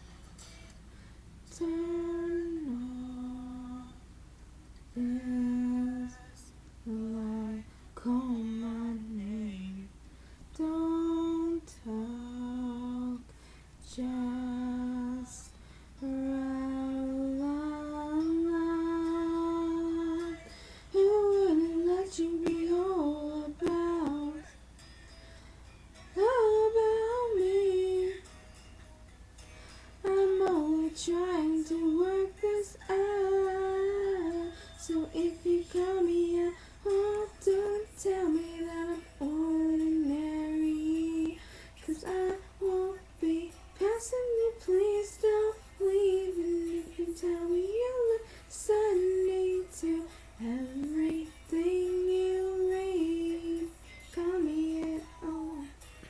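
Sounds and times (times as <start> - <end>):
woman singing wordless melody: 1.4 - 4.2, 4.8 - 24.8, 25.9 - 28.9, 29.6 - 56.0.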